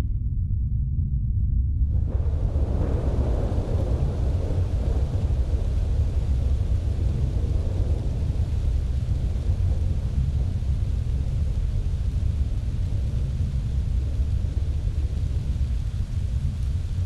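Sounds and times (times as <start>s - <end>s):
deep steady rumble: 0.0s - 17.0s
noisy midrange wash: 1.9s - 17.0s.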